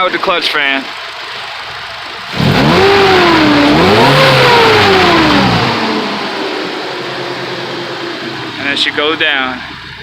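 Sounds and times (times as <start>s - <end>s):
car engine revving: 0.8s - 10.0s.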